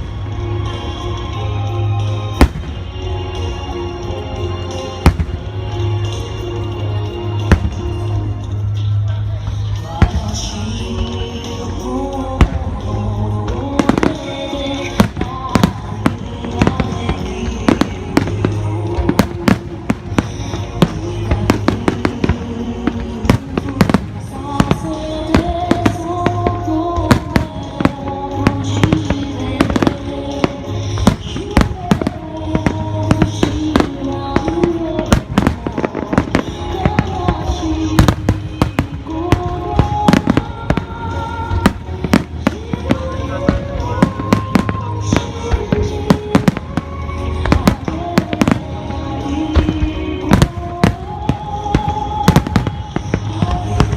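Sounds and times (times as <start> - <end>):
music through loudspeakers: 0.0 - 53.9
fireworks bursting: 9.5 - 53.9.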